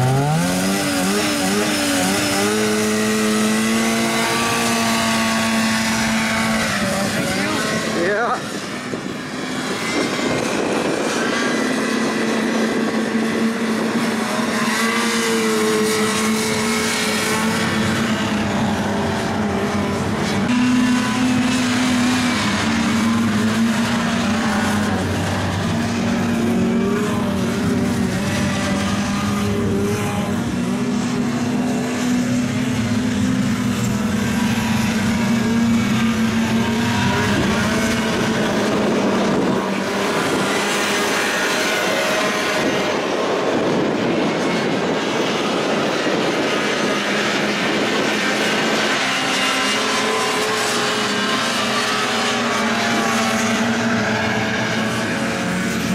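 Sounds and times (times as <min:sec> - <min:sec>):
atv engines racing: 0:00.0 - 0:55.9
harsh engine noise: 0:00.0 - 0:55.9.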